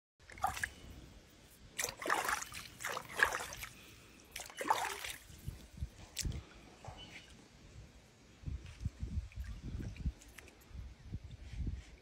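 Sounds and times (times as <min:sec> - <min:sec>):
water splashing and sloshing: 0:00.2 - 0:07.7, 0:08.5 - 0:11.0.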